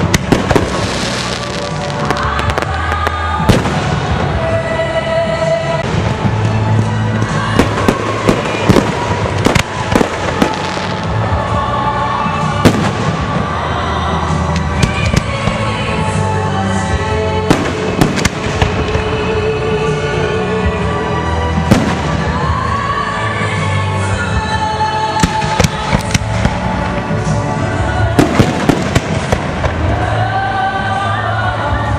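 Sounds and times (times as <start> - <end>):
fireworks bangs and crackles: 0.0 - 31.0
music: 0.0 - 31.9.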